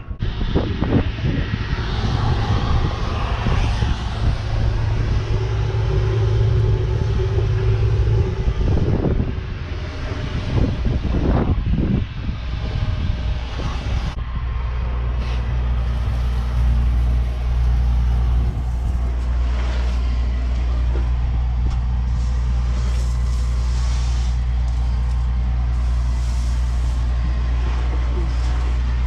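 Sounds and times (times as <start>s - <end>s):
large engine running: 0.0s - 29.0s.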